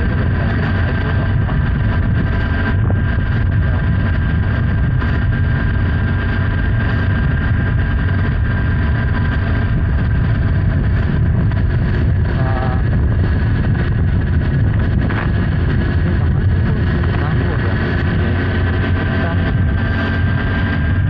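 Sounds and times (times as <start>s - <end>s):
motorcycle engine running: 0.0s - 21.0s
wind and road rumble: 0.0s - 21.0s.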